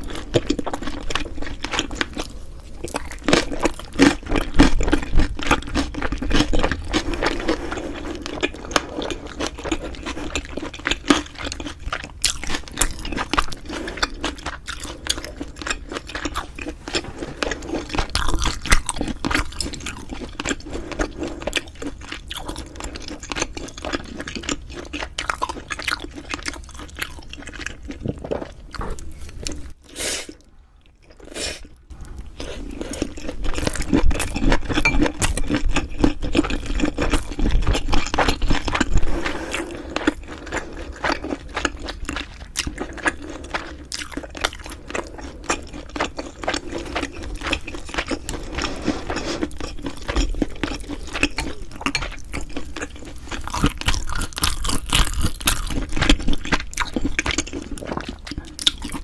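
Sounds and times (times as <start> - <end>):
wet chewing with crunches: 0.0 - 59.0.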